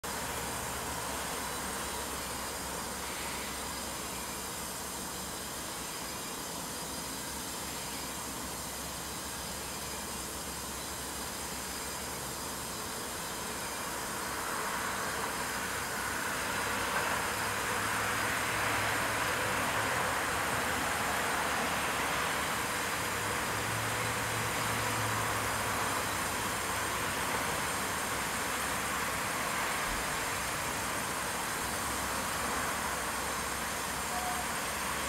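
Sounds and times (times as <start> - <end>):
steady background hiss: 0.1 - 35.0.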